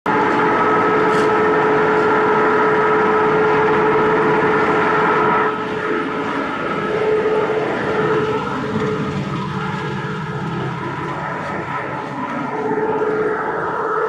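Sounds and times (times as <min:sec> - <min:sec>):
machinery mechanical drone: 0:00.1 - 0:14.0.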